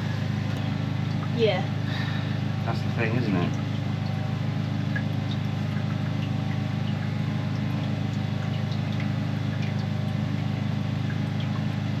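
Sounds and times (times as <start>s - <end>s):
drain-clearing rig engine running: 0.0s - 12.0s.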